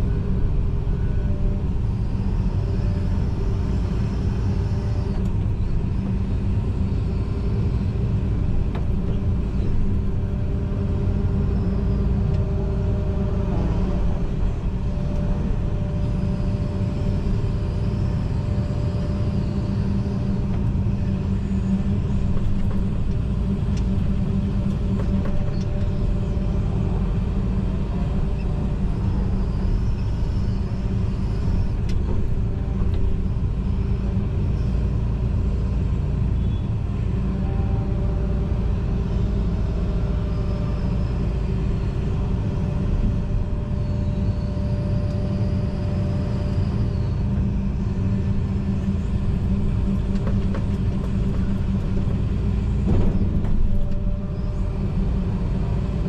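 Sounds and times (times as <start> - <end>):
diesel engine rumbling: 0.0 - 56.0
faint whining tones: 0.0 - 56.0.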